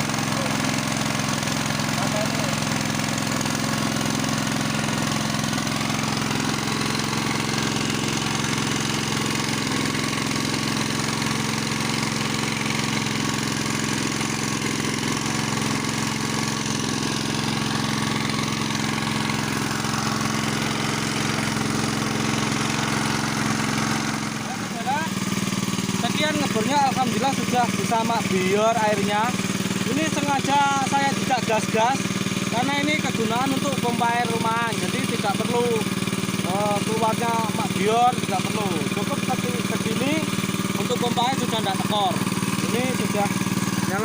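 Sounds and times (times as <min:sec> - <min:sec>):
small petrol engine running: 0:00.0 - 0:44.0.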